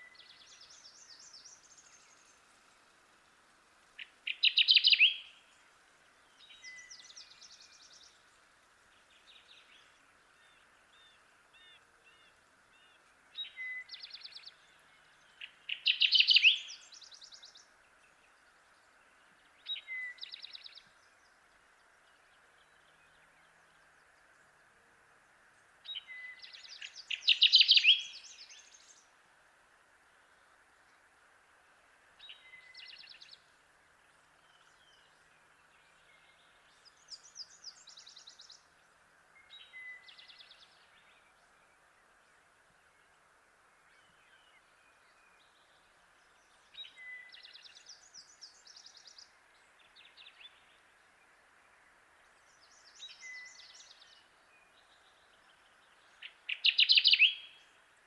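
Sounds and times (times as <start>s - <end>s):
background hiss: 0.0s - 58.0s
warbler singing: 4.0s - 24.6s, 25.8s - 29.2s, 32.2s - 43.2s, 43.8s - 58.0s.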